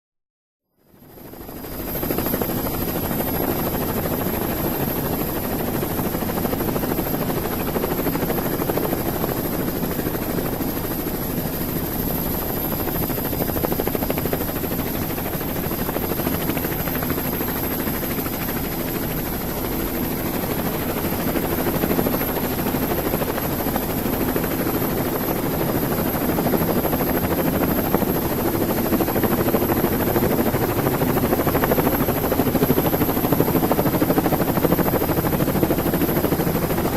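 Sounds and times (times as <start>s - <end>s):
helicopter engine and rotor: 0.8s - 36.9s.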